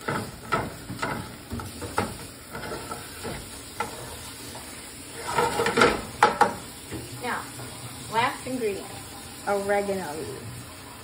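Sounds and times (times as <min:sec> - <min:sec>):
spatula scraping frying pan: 0:00.0 - 0:10.8
vegetables sizzling in oil: 0:00.0 - 0:11.0.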